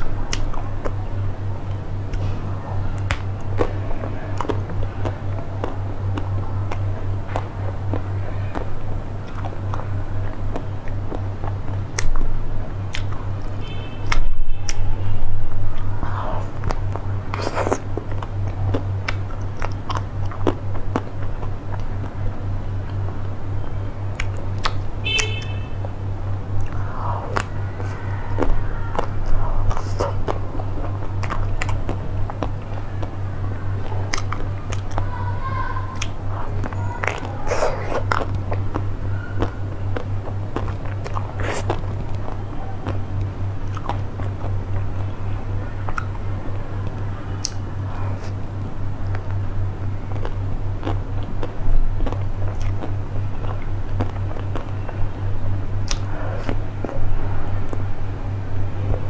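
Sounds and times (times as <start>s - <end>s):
eating ice cream mouth sounds: 0.0s - 59.0s
low hum: 0.0s - 59.0s.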